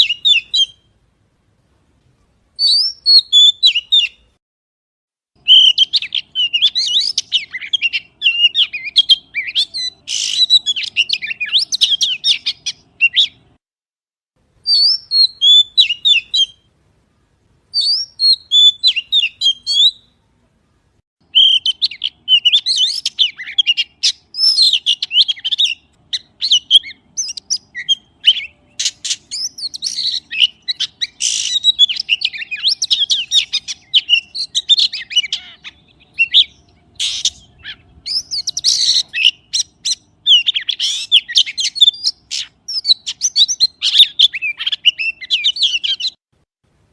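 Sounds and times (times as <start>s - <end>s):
magpie singing: 0.0s - 0.9s, 2.6s - 4.3s, 5.4s - 13.5s, 14.6s - 16.7s, 17.7s - 20.2s, 21.2s - 46.2s.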